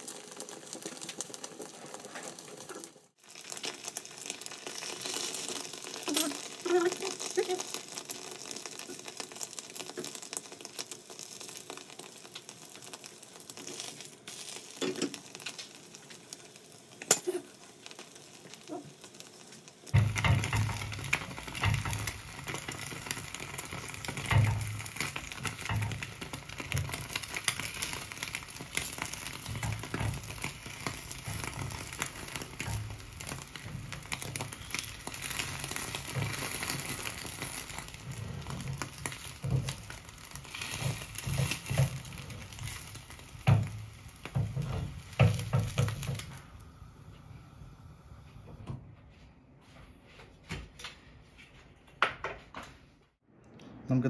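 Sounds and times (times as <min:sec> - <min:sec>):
egg and bread sizzling in pan: 0:00.0 - 0:48.1.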